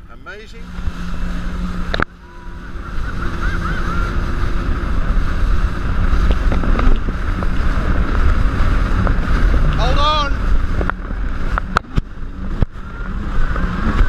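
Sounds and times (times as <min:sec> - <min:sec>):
jet ski engine at speed: 0:00.0 - 0:14.0
wind buffeting microphone: 0:00.0 - 0:14.0
water splashing off hull: 0:00.6 - 0:14.0.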